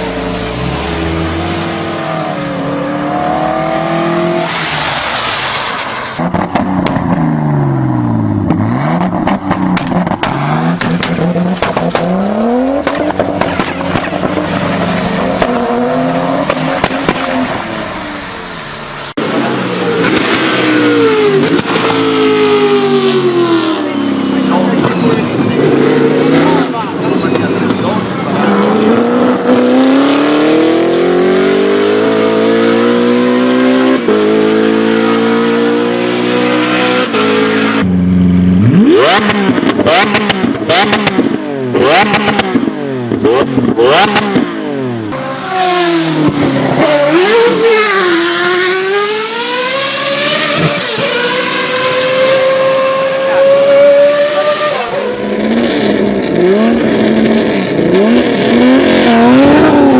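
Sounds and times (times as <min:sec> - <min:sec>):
engines revving and accelerating: 0:00.0 - 0:05.5, 0:06.1 - 0:59.9.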